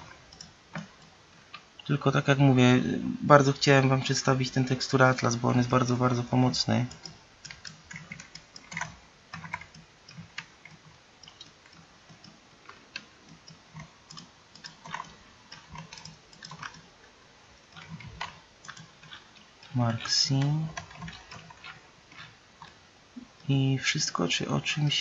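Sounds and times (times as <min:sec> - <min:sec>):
keyboard and mouse clicks: 0:00.0 - 0:02.0, 0:04.8 - 0:23.6.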